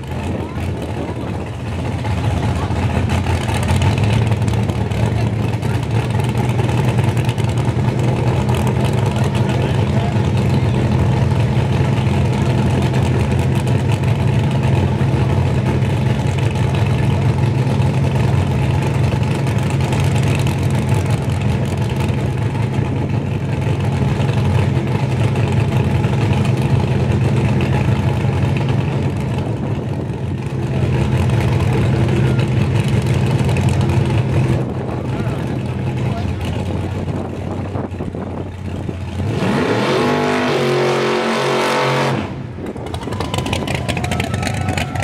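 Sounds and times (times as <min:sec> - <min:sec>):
drag car engine idling: 0:00.0 - 0:39.3, 0:42.4 - 0:45.0.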